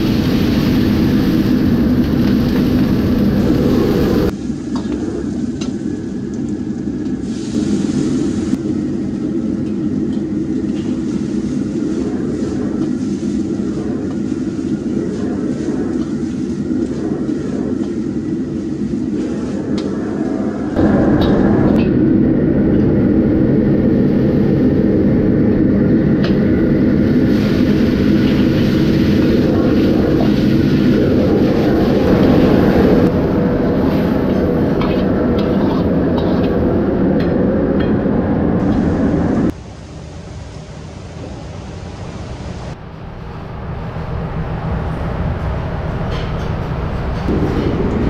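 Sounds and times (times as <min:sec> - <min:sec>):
low mechanical roar: 0:00.0 - 0:48.0.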